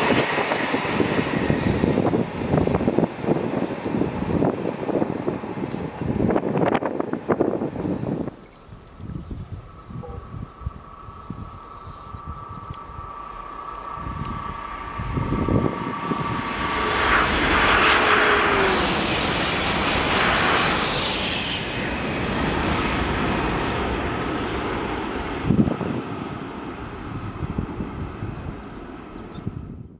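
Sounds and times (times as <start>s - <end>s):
high-speed train passing: 0.0s - 29.9s.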